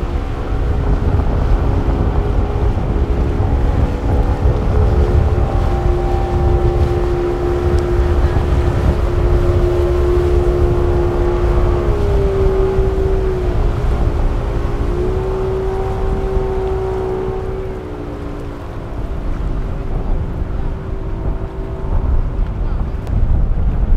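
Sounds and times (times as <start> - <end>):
outboard motor drone: 0.0 - 23.9
wind and water rumble: 0.0 - 23.9.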